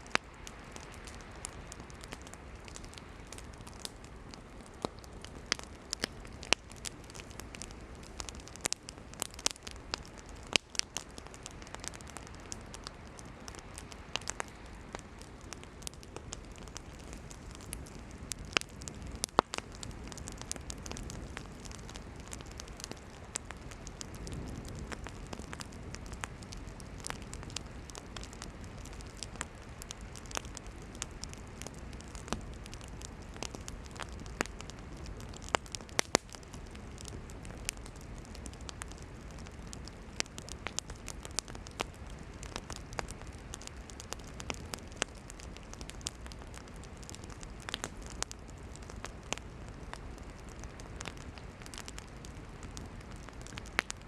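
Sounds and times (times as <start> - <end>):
campfire crackling and popping: 0.0 - 54.0
hiss of flames: 0.0 - 54.0.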